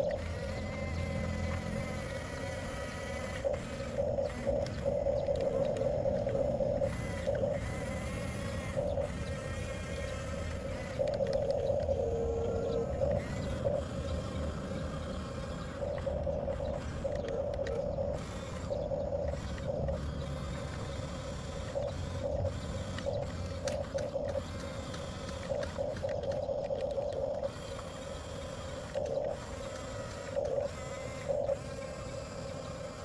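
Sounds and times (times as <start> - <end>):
toy motors whining: 0.0 - 33.0.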